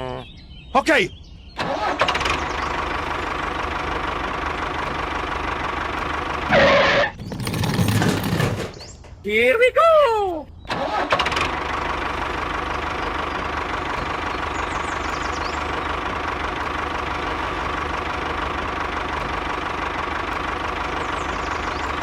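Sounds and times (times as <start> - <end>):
small engine idling: 1.6 - 9.1, 10.6 - 22.0.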